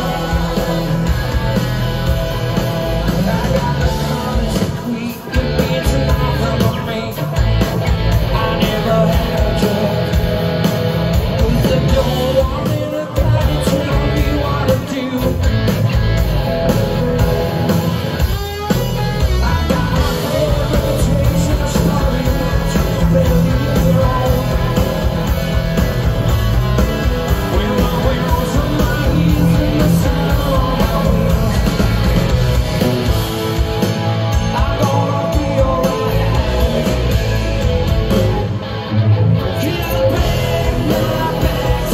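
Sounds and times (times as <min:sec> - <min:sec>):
man singing: 0:00.0 - 0:16.0, 0:18.6 - 0:32.5, 0:33.5 - 0:38.5, 0:39.4 - 0:41.9
live rock band: 0:00.0 - 0:41.9.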